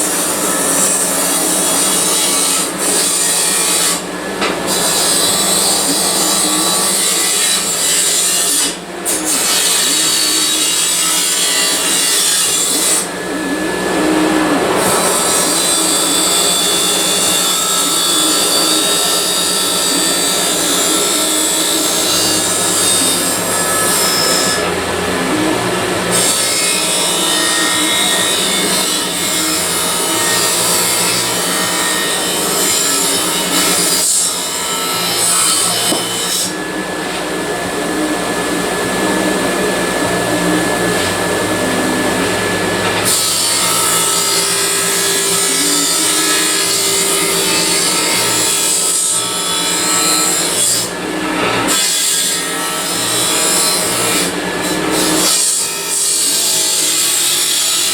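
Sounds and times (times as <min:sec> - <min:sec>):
grinder motor hum: 0:00.0 - 0:51.8
grinder hissing on sheet metal: 0:00.0 - 0:57.9.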